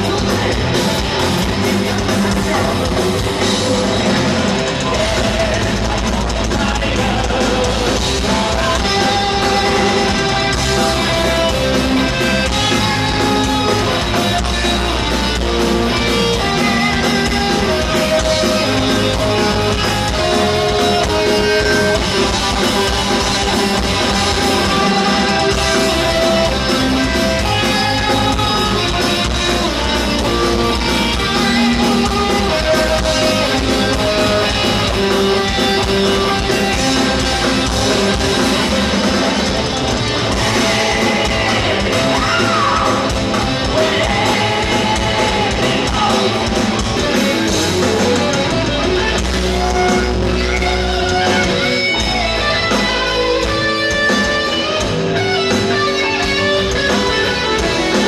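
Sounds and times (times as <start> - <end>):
heavy metal band playing live: 0.0 - 58.0.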